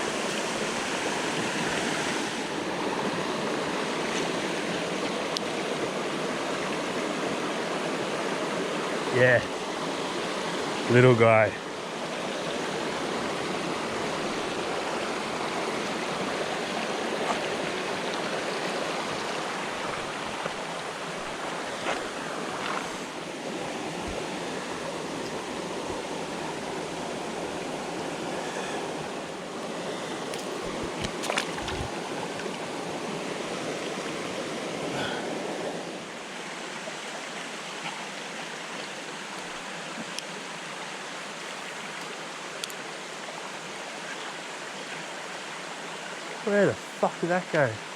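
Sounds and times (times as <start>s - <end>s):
creek running: 0.0s - 47.9s.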